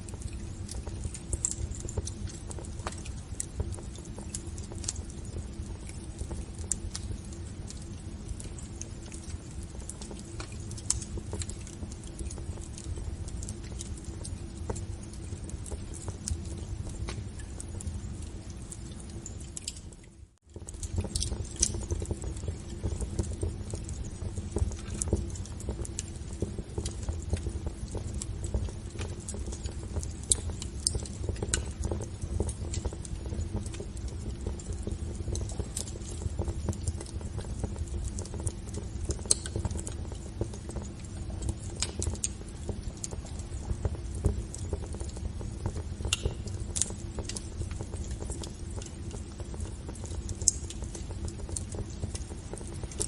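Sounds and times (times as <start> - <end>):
fire popping and snapping: 0.0 - 53.0
low rumble of flames: 0.0 - 53.0.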